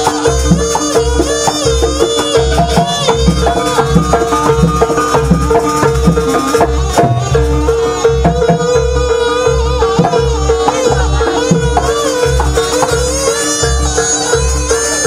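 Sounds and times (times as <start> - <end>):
hand drums: 0.0 - 15.0.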